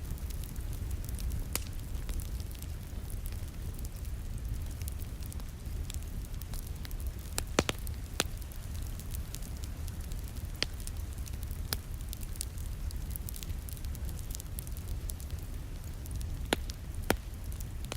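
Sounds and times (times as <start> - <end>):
low fire rumble: 0.0 - 17.9
wood fire crackling: 0.0 - 17.9.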